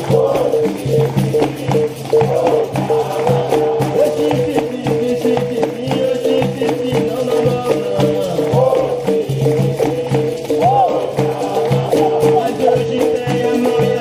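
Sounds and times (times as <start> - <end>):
berimbau rhythmic pattern: 0.0 - 14.0
jingling tambourine: 0.0 - 14.0
shaken rattle: 0.0 - 14.0.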